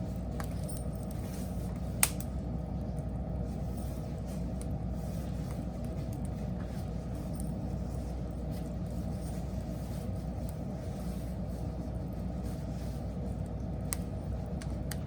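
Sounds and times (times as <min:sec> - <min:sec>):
faint fire crackles: 0:00.0 - 0:15.0
wood fire rumbling: 0:00.0 - 0:15.0.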